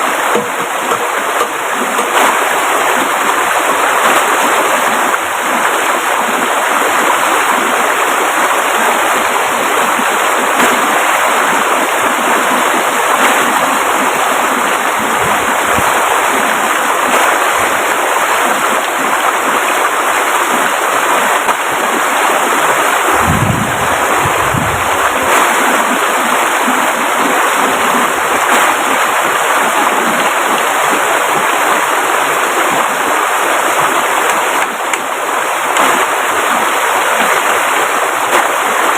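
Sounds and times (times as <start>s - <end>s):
river rushing: 0.0s - 38.9s.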